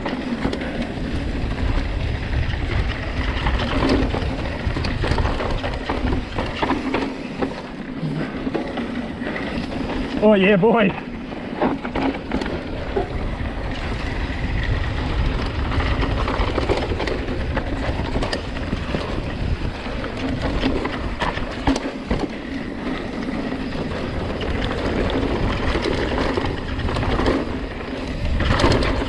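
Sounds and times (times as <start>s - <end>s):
bike clicks and rattles: 0.0s - 29.0s
wind and tyre noise: 0.0s - 29.0s.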